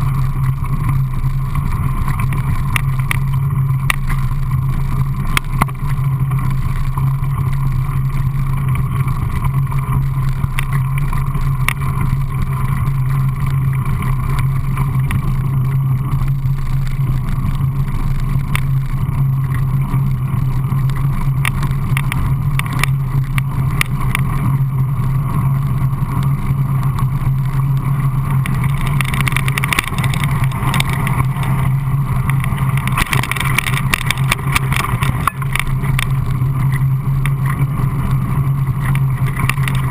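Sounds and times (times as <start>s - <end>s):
bike clicking and rattling: 0.0s - 39.9s
bike tyres rumbling on gravel: 0.0s - 39.9s.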